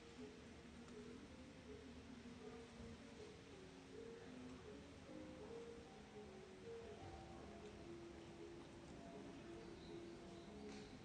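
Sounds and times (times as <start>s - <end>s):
soft slow background music: 0.0s - 11.0s.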